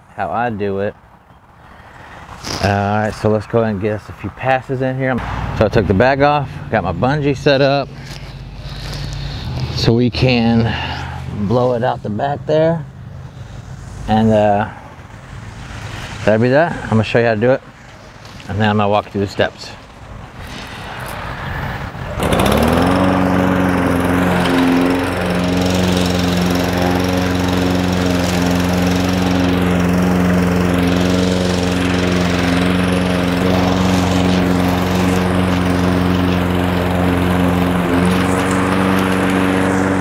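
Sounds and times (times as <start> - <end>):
lawn mower engine cutting grass: 1.8 - 3.3, 4.1 - 40.0.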